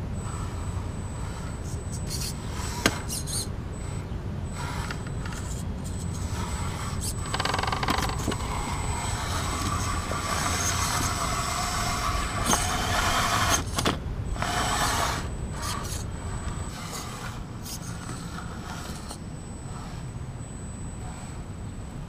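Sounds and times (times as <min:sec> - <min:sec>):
electric motor whining: 0:00.0 - 0:21.4.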